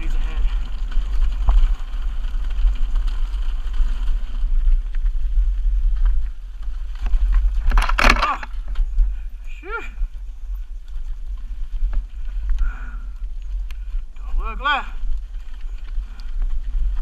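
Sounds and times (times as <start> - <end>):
tyres over loose stones: 0.0 - 17.0
wind rumbling on microphone: 0.0 - 17.0.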